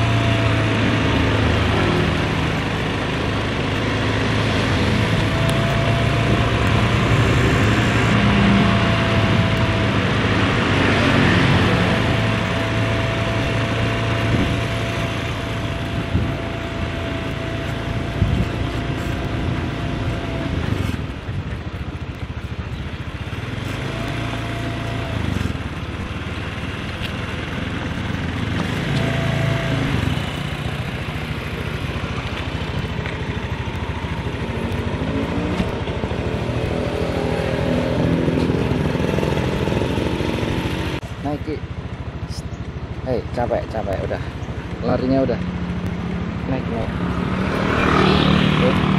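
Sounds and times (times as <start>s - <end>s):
motorcycle engine running: 0.0s - 48.9s
road and wind noise: 0.0s - 48.9s.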